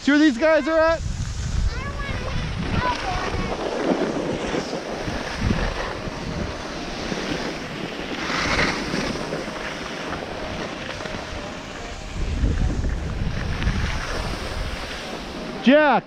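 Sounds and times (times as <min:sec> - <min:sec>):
skis scraping on packed snow: 0:00.0 - 0:16.0
wind rushing over microphone: 0:00.0 - 0:16.0.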